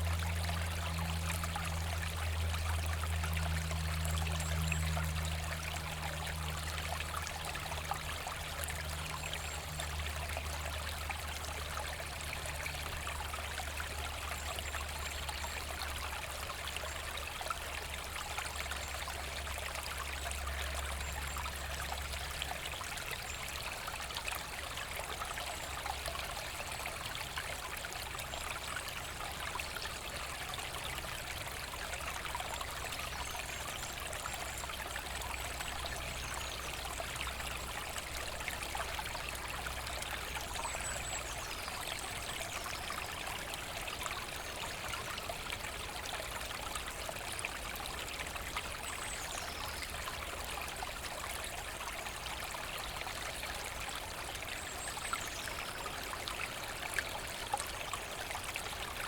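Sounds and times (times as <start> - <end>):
brook babbling: 0.0 - 59.0.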